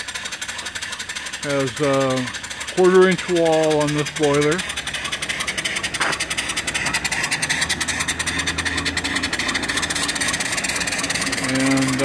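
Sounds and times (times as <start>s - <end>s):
steam engine exhaust beat: 0.0s - 12.0s
steam hissing: 0.0s - 12.0s.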